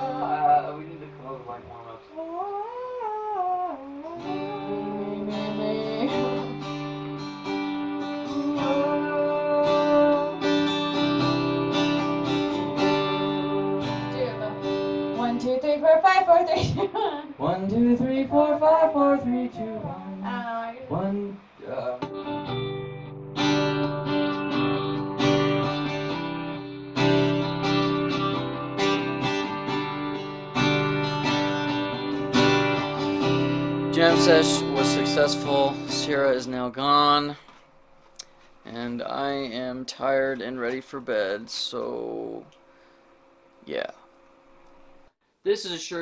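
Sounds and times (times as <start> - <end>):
guitar strumming chords: 0.0 - 2.9, 3.6 - 43.0.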